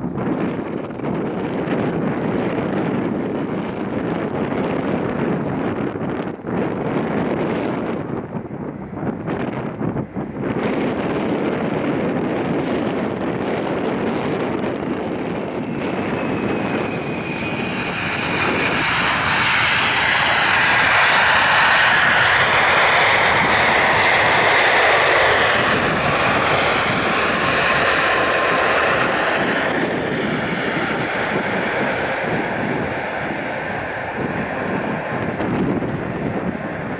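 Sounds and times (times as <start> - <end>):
jet engine whine: 0.0 - 36.9
jet engines roaring: 0.0 - 36.9.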